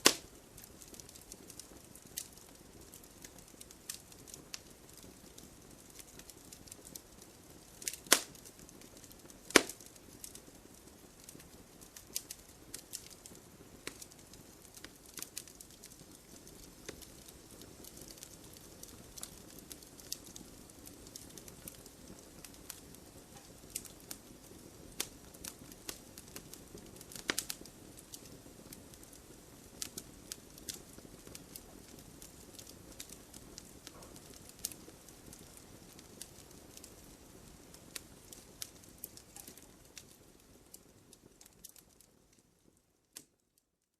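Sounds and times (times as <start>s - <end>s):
campfire crackling and popping: 0.0s - 43.4s.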